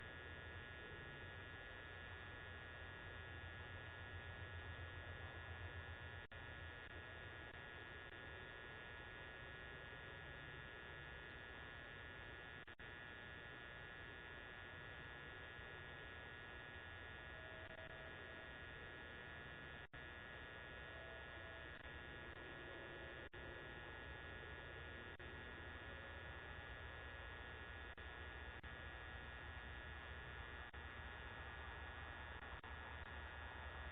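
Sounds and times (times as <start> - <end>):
faint electrical hum: 0.0 - 33.9
thin high whine: 0.0 - 33.9.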